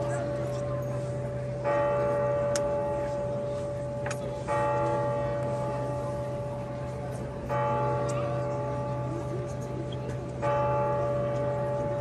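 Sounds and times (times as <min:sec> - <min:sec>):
large church bell tolling: 0:00.0 - 0:12.0.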